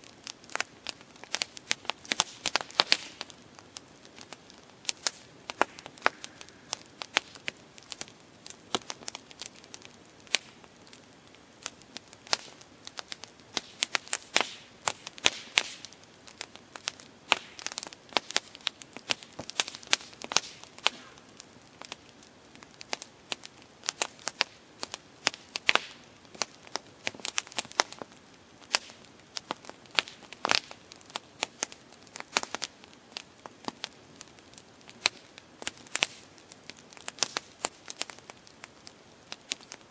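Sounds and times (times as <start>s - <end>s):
campfire crackling: 0.0s - 39.9s
low steady hiss: 0.0s - 39.9s.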